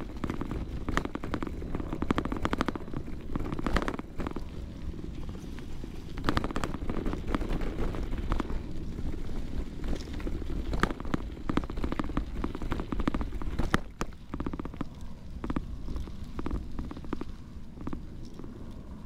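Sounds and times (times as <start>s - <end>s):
low rumble of path noise: 0.0s - 19.0s.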